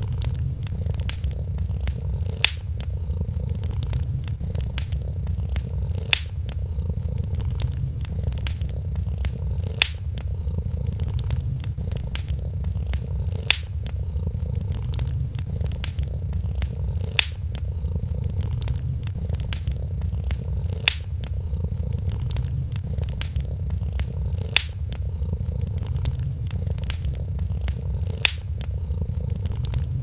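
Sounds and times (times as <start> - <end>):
cat purring: 0.0 - 30.0
wood fire crackling: 0.0 - 30.0.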